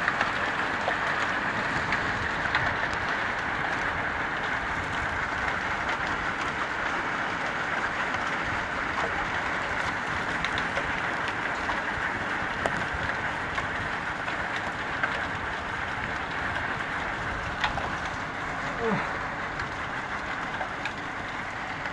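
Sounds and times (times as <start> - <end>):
heavy rain: 0.0 - 21.9.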